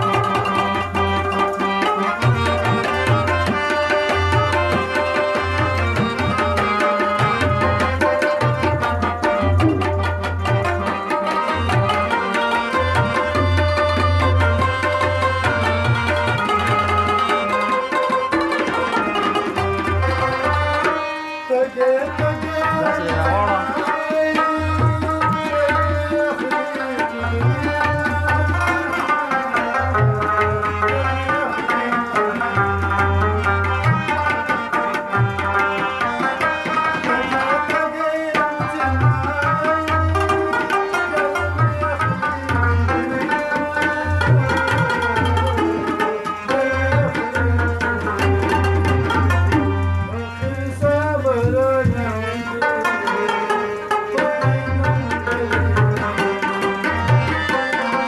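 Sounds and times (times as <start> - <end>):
harmonium: 0.0 - 58.0
tabla drums: 0.0 - 58.0.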